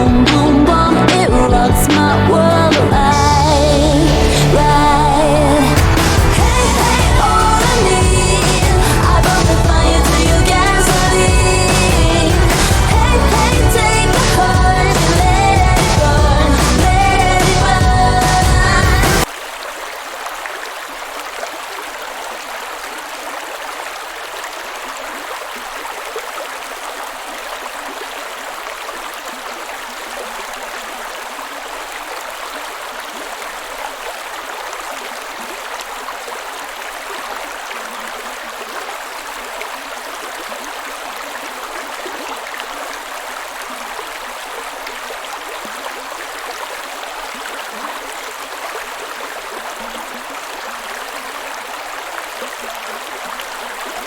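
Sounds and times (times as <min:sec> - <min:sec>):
flowing water rushing: 0:01.0 - 0:54.0.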